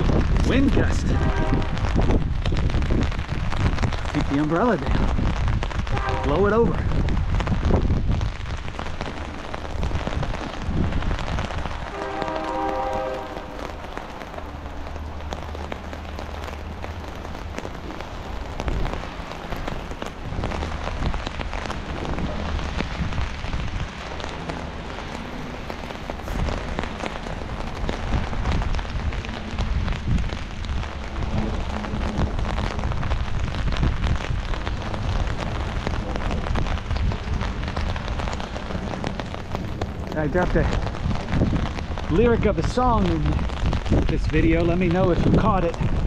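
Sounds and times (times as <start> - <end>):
rain pattering on umbrella: 0.0 - 46.0
wind rumble on microphone: 0.0 - 46.0.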